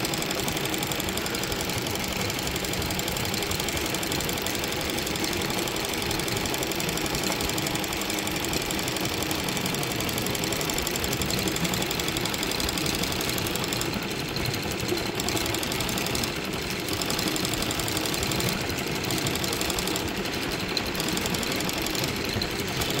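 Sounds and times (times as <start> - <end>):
embroidery machine clattering: 0.0 - 23.0.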